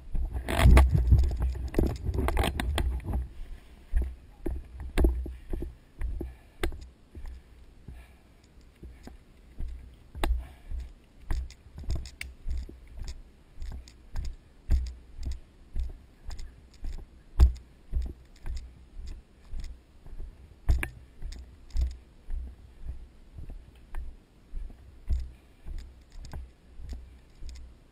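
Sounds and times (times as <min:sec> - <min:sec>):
footsteps on grassy trail: 0:00.0 - 0:08.0, 0:08.8 - 0:27.7
gear clicking and rattling: 0:00.1 - 0:03.3, 0:08.4 - 0:27.7.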